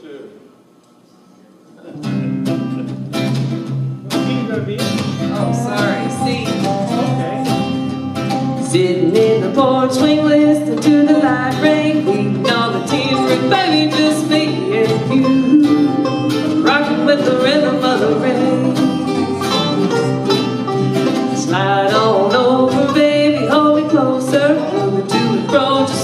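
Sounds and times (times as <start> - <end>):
bluegrass band playing: 1.9 - 26.0.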